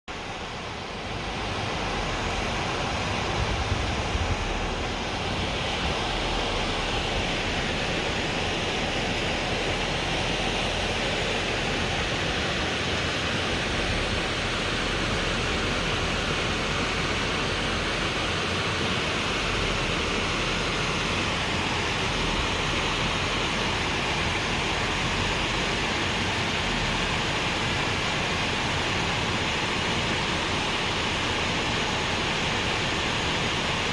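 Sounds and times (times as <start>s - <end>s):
waterfall rushing roar: 0.1s - 33.9s.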